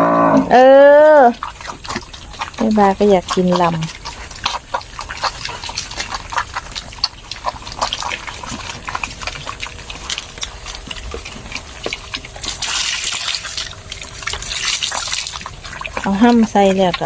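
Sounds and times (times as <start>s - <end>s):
pigs eating wet feed: 0.0s - 17.0s.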